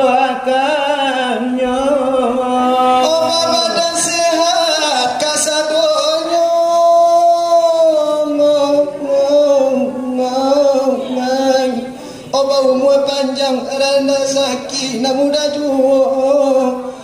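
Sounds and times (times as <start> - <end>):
man singing devotional song: 0.0 - 17.0.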